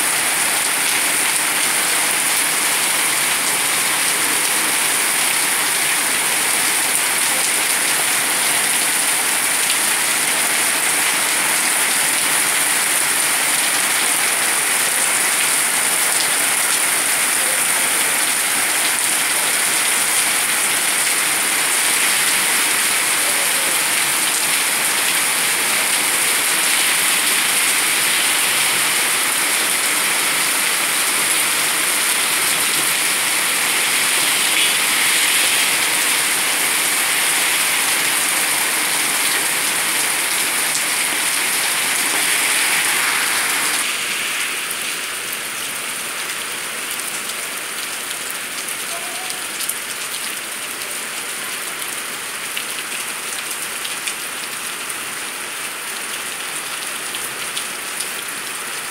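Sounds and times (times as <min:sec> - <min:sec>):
heavy rain on stone pavement: 0:00.0 - 0:58.9.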